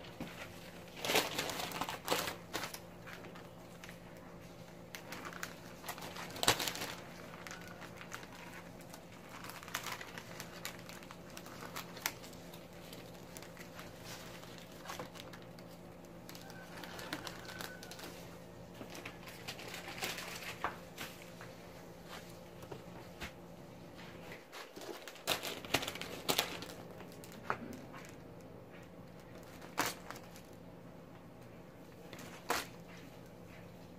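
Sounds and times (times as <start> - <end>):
crumpled paper crinkling: 0.0 - 30.8, 31.5 - 33.9.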